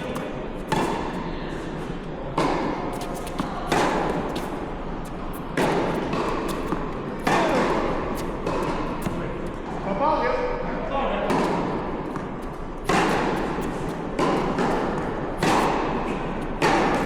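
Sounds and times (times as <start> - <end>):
tennis ball bouncing: 0.0 - 9.8, 11.3 - 17.0
tennis racquets hitting ball: 0.0 - 9.8, 11.3 - 17.0.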